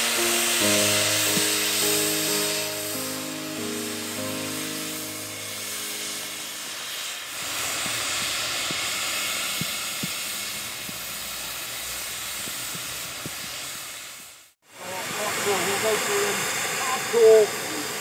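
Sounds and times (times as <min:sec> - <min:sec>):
steam hissing: 0:00.0 - 0:18.0.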